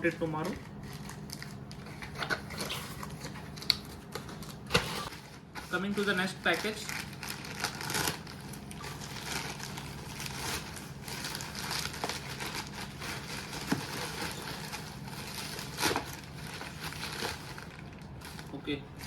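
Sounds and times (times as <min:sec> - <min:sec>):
low steady hum: 0:00.0 - 0:19.0
wrapping crinkling and rustling: 0:00.0 - 0:19.0.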